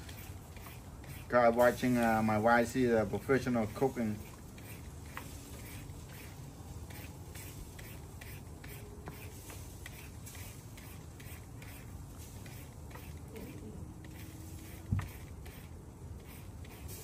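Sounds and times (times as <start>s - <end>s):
hand shredder scraping mango: 0.0s - 2.4s, 3.0s - 17.0s.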